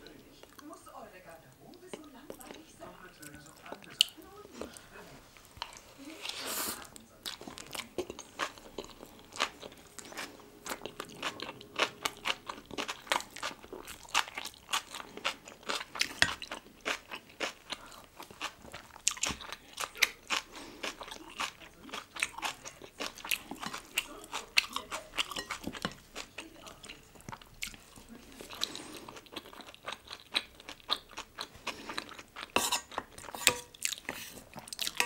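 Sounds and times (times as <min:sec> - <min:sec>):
chewing crunchy food: 0:01.6 - 0:35.0.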